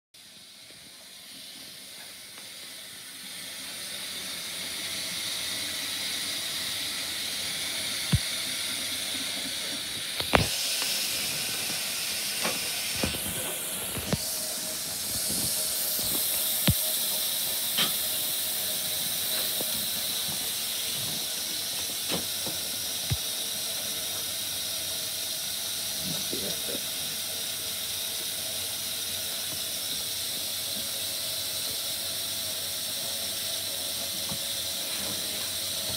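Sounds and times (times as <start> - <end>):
steady hiss: 0.2 - 35.9.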